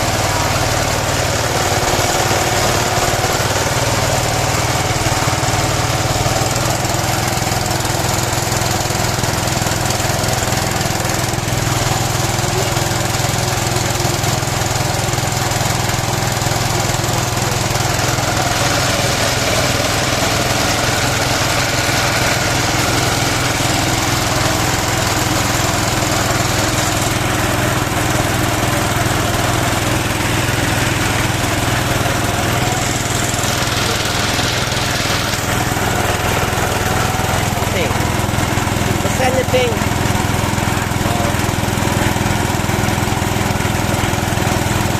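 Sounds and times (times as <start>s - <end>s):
small pump engine running: 0.0s - 44.9s.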